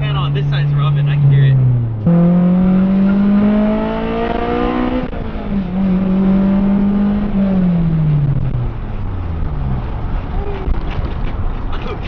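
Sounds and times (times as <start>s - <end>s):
car engine under load: 0.0s - 12.0s.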